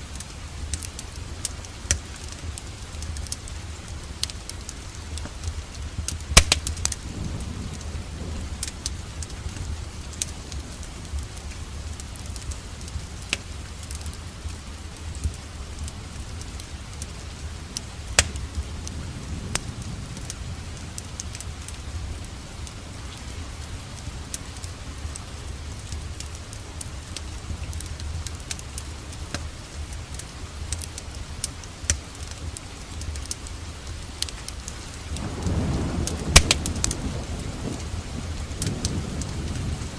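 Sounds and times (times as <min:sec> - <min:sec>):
falling rain hiss: 0:00.0 - 0:39.9
wood fire crackling and popping: 0:00.0 - 0:39.9.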